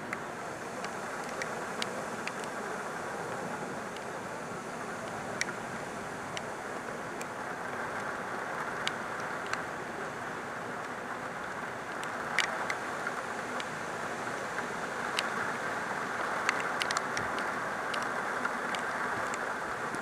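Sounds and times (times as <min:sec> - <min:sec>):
raindrops ticking on camera: 0:00.0 - 0:04.2, 0:04.8 - 0:09.9, 0:10.8 - 0:20.0
heavy rain: 0:00.0 - 0:20.0.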